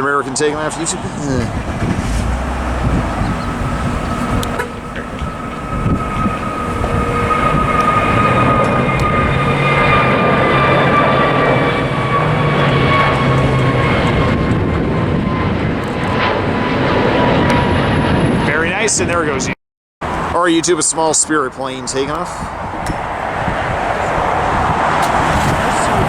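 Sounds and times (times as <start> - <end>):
jet engines roaring with whine: 0.0 - 26.0.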